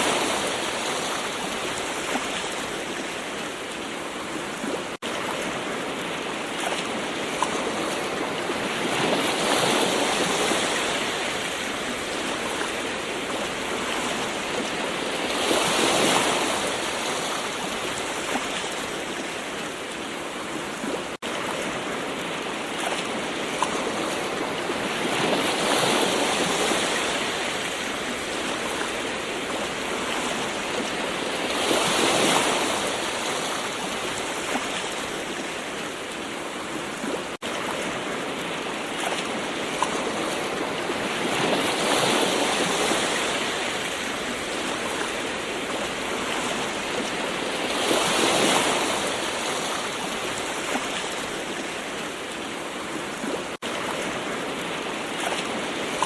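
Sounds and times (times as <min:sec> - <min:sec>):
ocean waves washing ashore: 0:00.0 - 0:56.0.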